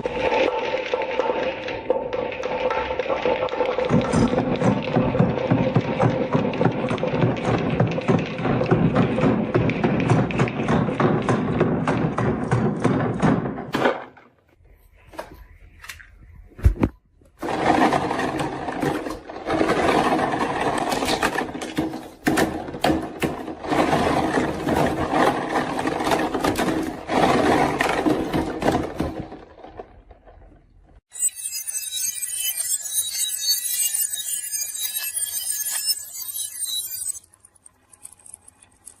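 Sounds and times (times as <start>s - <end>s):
marbles rolling down wooden run: 0.0s - 14.1s, 17.4s - 30.8s, 31.7s - 39.0s.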